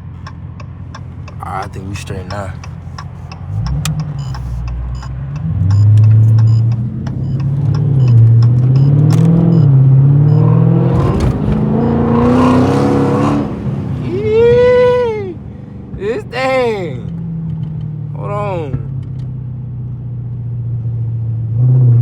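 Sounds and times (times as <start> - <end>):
car engine accelerating hard: 1.0 - 22.0.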